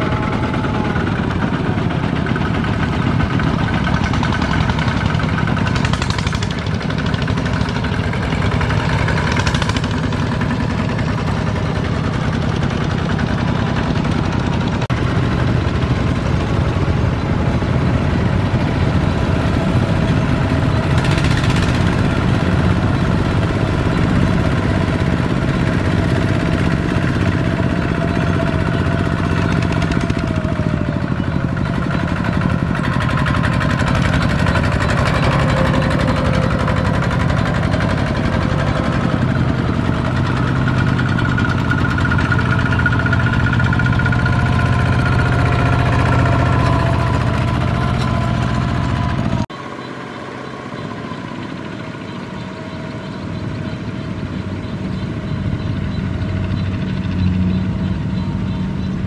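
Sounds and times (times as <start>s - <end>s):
diesel tractor engines running: 0.0s - 59.0s.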